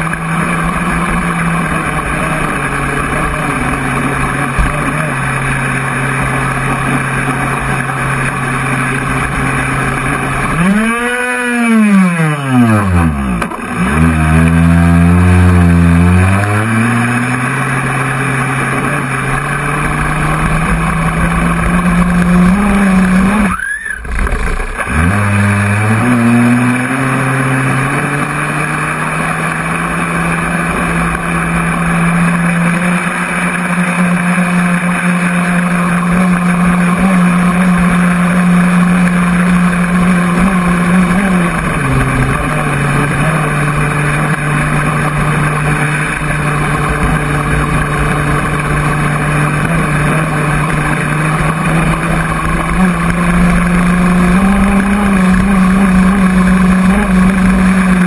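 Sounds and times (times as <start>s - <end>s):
electric motor whine: 0.0s - 58.0s
rushing water: 0.0s - 58.0s.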